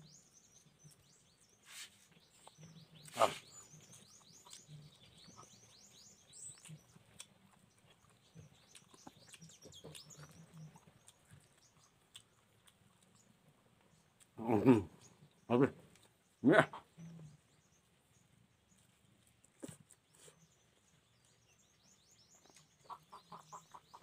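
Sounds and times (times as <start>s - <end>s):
faint eating noises: 0.0s - 24.0s
small birds chirping: 0.0s - 24.0s.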